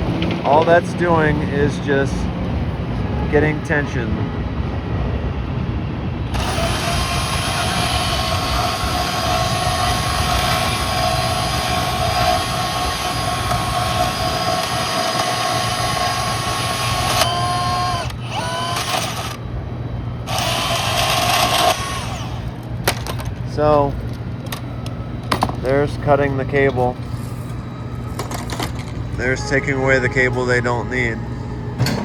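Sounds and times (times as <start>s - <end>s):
elevated train rushing by: 0.0s - 28.2s, 29.0s - 32.0s
train whining tones: 0.0s - 32.0s.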